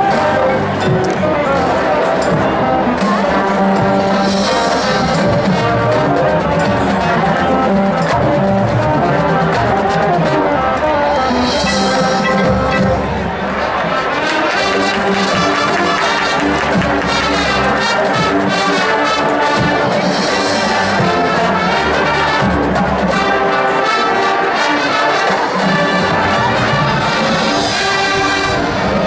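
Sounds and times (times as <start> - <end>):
brass section playing chords: 0.0 - 29.0
drumline beat: 0.0 - 29.0.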